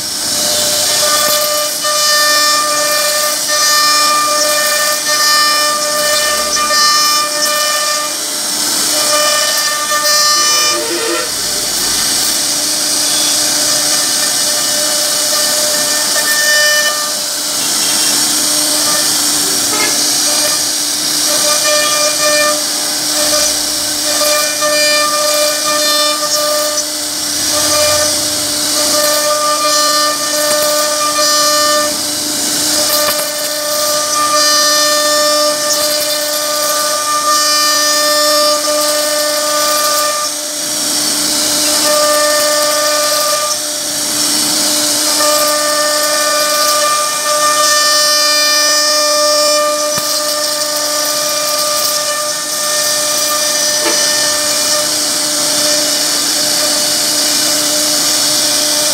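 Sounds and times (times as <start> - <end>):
hiss of bit cutting wood: 0.0 - 58.9
router spindle whining: 0.0 - 58.9.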